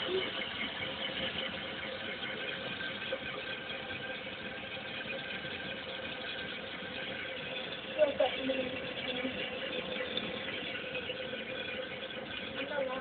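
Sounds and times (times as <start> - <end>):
faint steady hum: 0.0 - 13.0
toilet tank refilling: 0.0 - 13.0.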